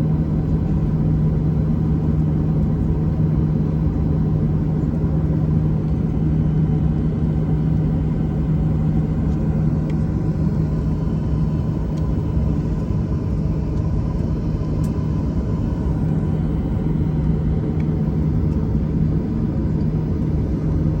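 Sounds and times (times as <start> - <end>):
engine rumble: 0.2 - 21.0.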